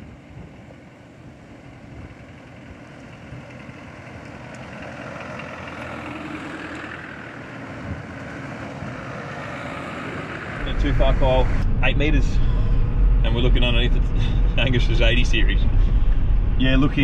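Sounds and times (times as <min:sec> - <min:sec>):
tyres on dirt track: 0:00.0 - 0:17.0
vehicle engine: 0:00.0 - 0:17.0.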